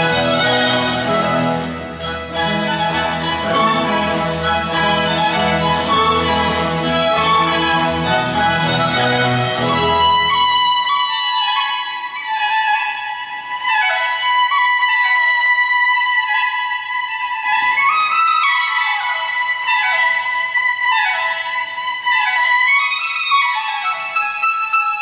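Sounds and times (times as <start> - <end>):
classical violin music on speaker: 0.0 - 25.0.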